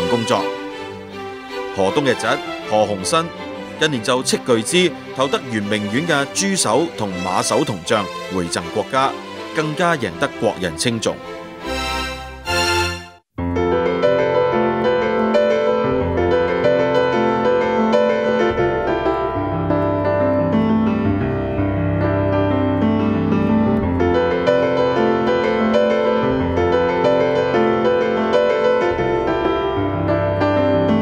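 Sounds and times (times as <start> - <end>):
piano instrumental music: 0.0 - 31.0.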